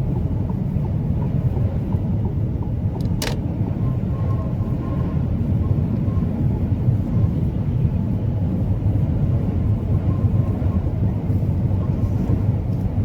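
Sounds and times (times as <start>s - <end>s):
truck rumbling on the move: 0.0s - 13.0s.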